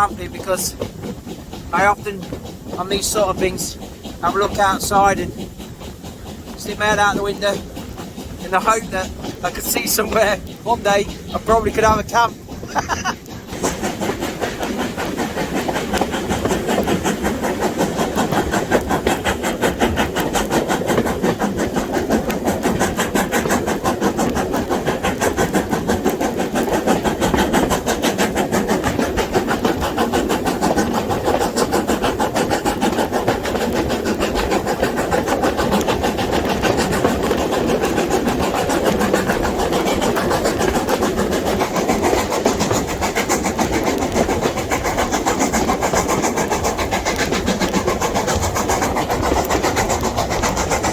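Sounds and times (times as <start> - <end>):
passenger train running at speed: 0.0 - 50.9.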